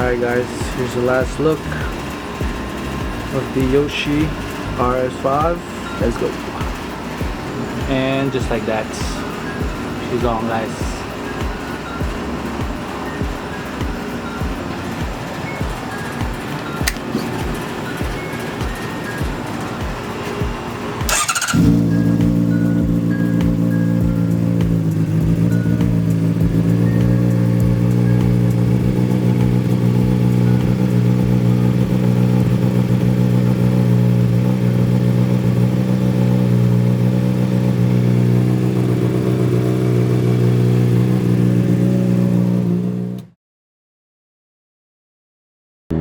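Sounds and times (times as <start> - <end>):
motorcycle engine idling loudly: 0.0 - 15.8, 16.8 - 43.2.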